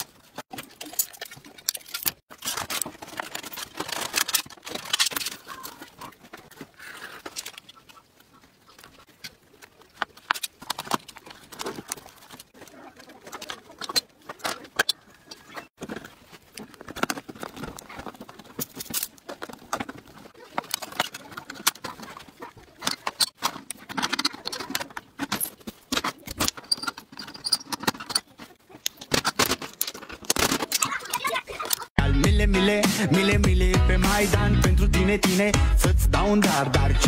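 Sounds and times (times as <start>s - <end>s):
metal sheet crinkling: 0.0s - 31.9s.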